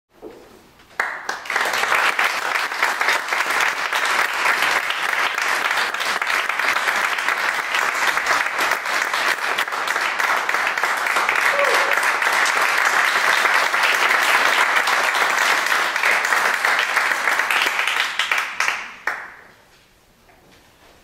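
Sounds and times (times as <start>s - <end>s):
audience applauding: 0.9s - 19.5s.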